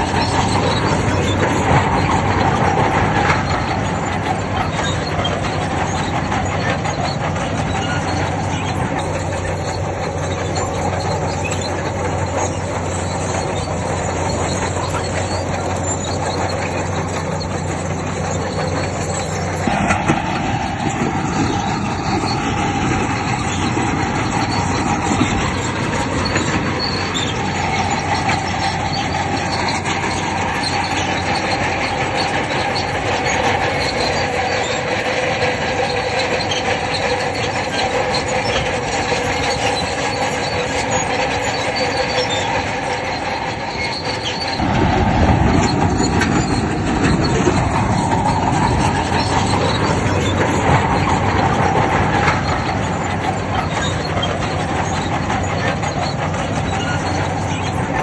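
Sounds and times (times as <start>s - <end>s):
bulldozer diesel engine running: 0.0s - 58.0s
steel tracks squealing and clanking: 0.0s - 58.0s.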